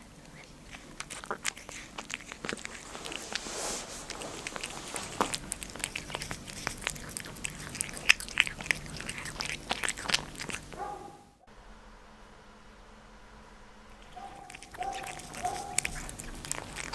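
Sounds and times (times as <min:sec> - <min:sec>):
cat licking and chewing food: 0:00.0 - 0:11.2, 0:13.9 - 0:16.9.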